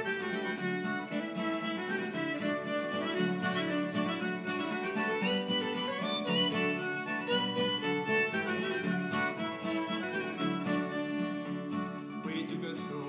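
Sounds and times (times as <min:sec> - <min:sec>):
acoustic guitar: 0:00.0 - 0:13.0
harmonica melody: 0:00.0 - 0:13.0.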